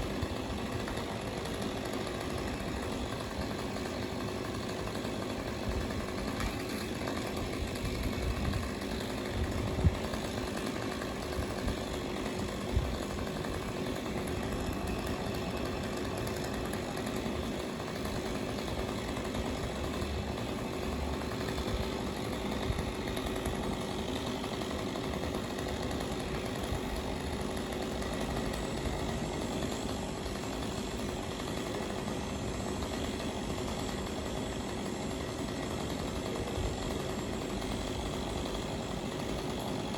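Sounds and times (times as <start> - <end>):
power equipment engine running: 0.0 - 39.9.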